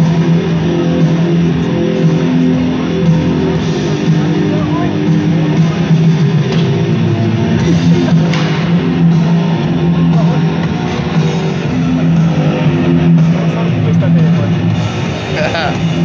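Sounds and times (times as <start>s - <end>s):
heavy rock music: 0.0s - 16.0s.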